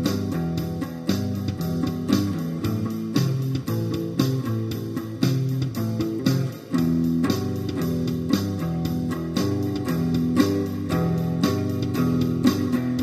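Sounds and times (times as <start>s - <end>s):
bass line: 0.0s - 13.0s
drum hits: 0.0s - 13.0s
plucked guitar riff: 0.0s - 13.0s.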